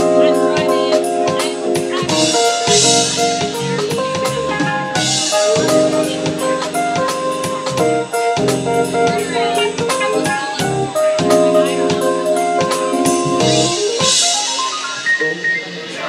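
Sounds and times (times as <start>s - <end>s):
drum kit beat: 0.0s - 16.0s
keyboard chords: 0.0s - 16.0s.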